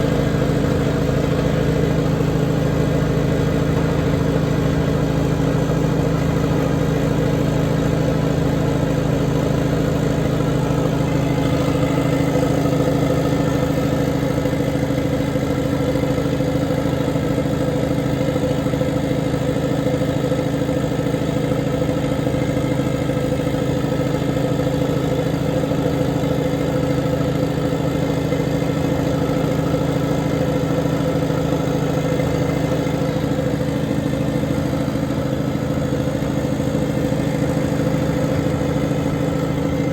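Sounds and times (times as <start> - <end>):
heavy equipment engine running: 0.0 - 39.9.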